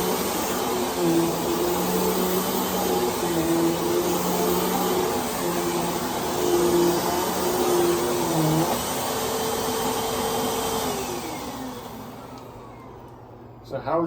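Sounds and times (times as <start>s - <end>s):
vacuum cleaner running: 0.0s - 13.6s.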